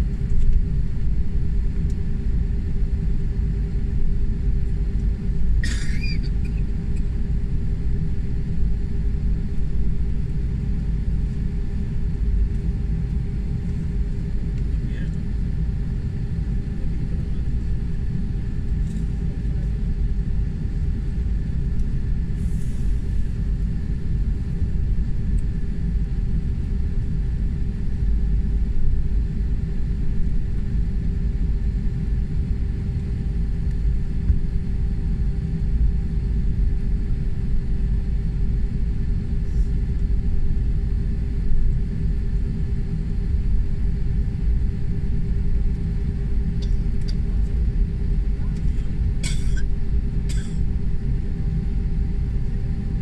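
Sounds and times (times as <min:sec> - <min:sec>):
jet engine rumble in cabin: 0:00.0 - 0:53.0.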